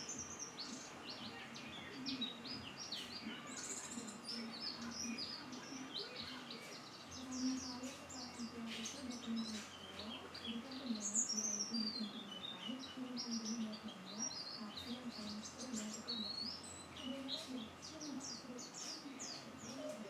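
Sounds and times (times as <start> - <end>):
bird chirping and twittering: 0.0 - 20.0.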